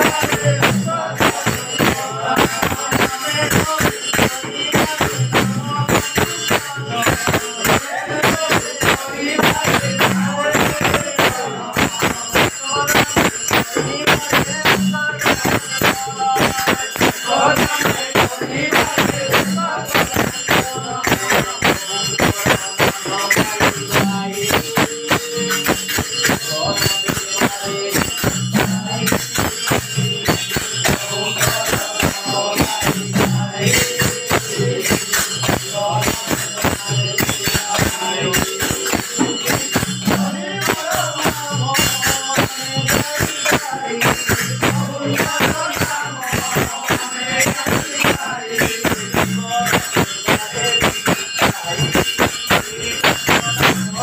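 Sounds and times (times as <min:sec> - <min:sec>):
group of men chanting: 0:00.0 - 0:05.0, 0:05.9 - 0:54.0
drum strokes: 0:00.0 - 0:54.0
hand cymbals clashing: 0:00.0 - 0:54.0.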